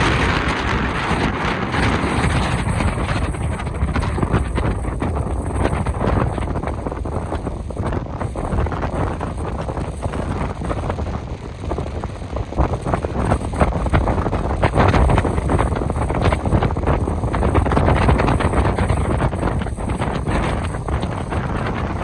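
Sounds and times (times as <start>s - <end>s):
surf breaking on a beach: 0.0s - 22.0s
wind buffeting the microphone: 0.0s - 22.0s.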